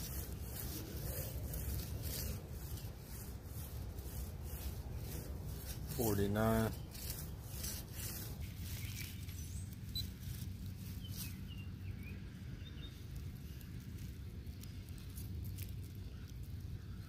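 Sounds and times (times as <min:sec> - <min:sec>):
low steady rumble: 0:00.0 - 0:17.0
soil and roots crumbling: 0:00.0 - 0:17.0.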